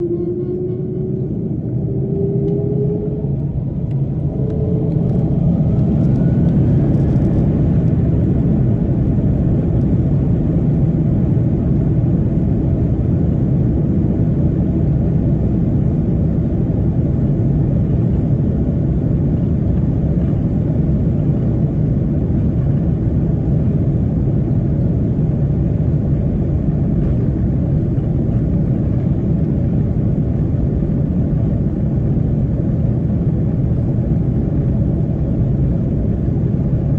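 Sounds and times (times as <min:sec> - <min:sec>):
jet engine whine: 0:00.0 - 0:36.9
jet engines deep rumble: 0:00.0 - 0:36.9.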